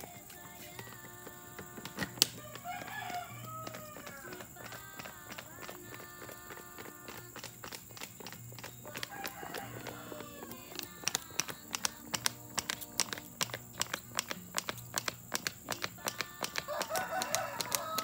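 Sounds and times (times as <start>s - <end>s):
sharp ticks: 0.0s - 18.0s.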